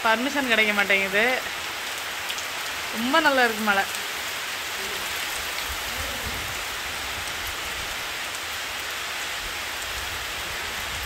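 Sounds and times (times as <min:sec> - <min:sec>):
heavy rain on trees and tiles: 0:00.0 - 0:11.0.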